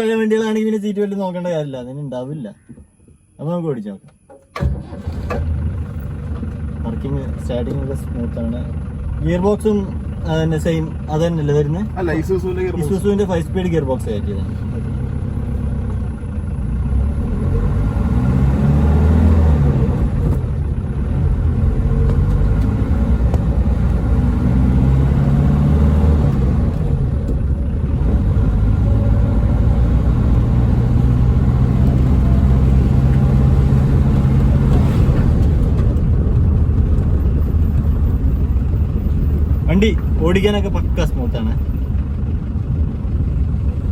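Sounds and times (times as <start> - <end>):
car engine accelerating: 4.6 - 43.9.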